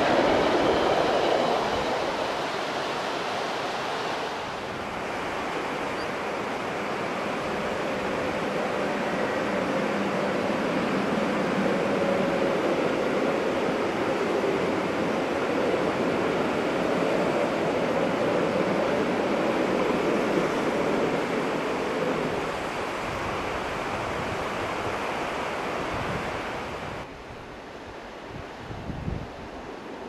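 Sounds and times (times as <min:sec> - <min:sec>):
train wheels rumbling on track: 0:00.0 - 0:26.2.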